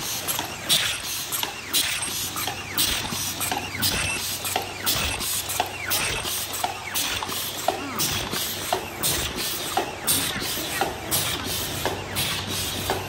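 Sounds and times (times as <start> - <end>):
machine clattering: 0.0 - 13.0.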